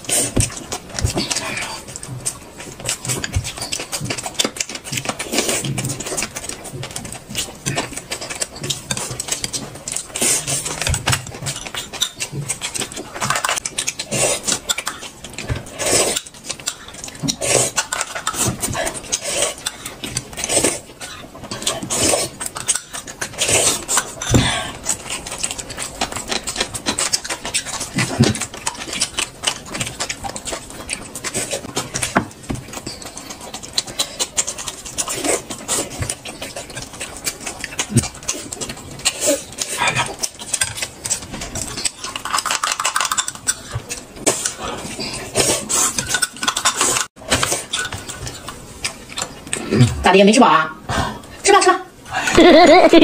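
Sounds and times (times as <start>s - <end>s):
chewing and lip-smacking: 0.0s - 50.0s.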